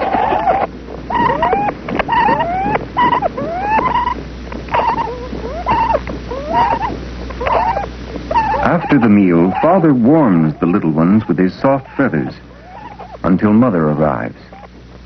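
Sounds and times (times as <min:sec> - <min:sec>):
nestlings begging calls: 0:00.0 - 0:15.0.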